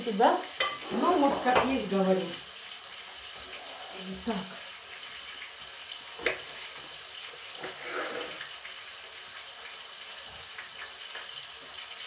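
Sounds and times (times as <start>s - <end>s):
steady cooking hiss: 0.0s - 12.0s.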